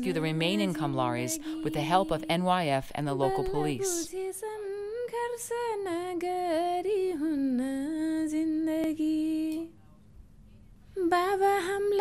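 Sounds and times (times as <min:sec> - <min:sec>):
woman singing unaccompanied: 0:00.0 - 0:09.8, 0:10.9 - 0:12.0.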